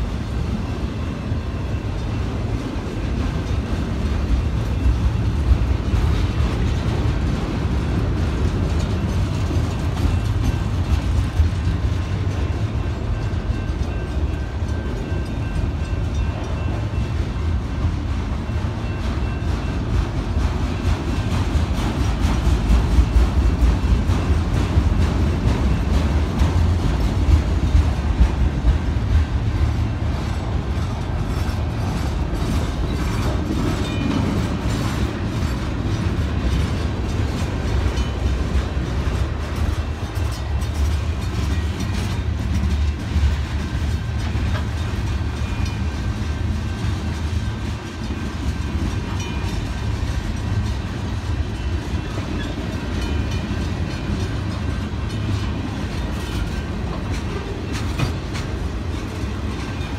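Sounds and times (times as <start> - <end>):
freight train wheels on rail: 0.0 - 59.9.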